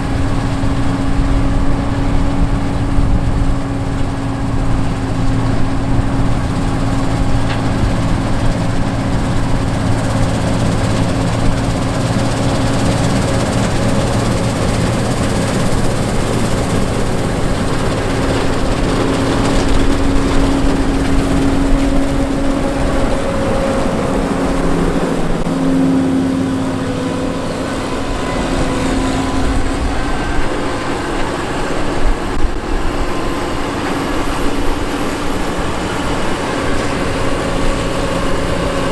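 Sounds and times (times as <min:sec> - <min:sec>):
combine harvester engine and threshing: 0:00.0 - 0:38.9.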